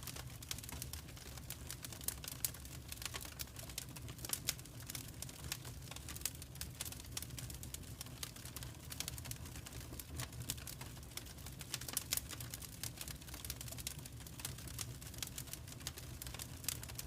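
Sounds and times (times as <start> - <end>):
fire popping and snapping: 0.0 - 17.0
low rumble of burning: 0.0 - 17.0
wood fire crackling: 0.0 - 17.0.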